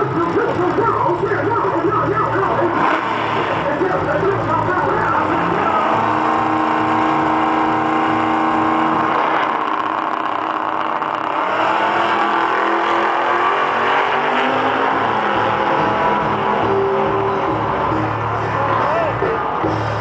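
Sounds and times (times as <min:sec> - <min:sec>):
drag racing cars accelerating: 0:00.0 - 0:20.0.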